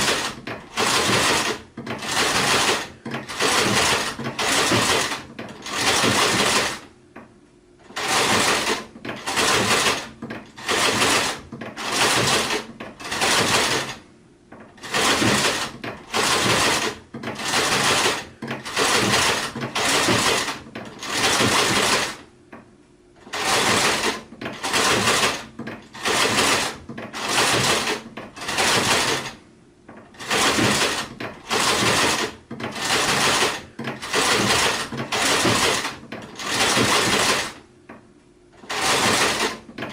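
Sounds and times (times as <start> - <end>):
sewing machine stitching: 0.0 - 6.9, 7.8 - 22.3, 23.2 - 29.4, 30.0 - 37.7, 38.6 - 39.9.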